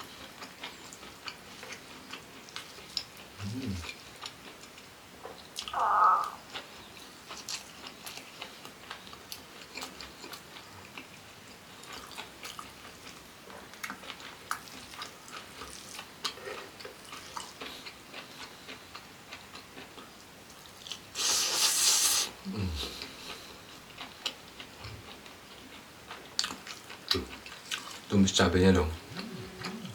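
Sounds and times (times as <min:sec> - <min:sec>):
person chewing food: 0:00.0 - 0:28.1, 0:29.0 - 0:29.9.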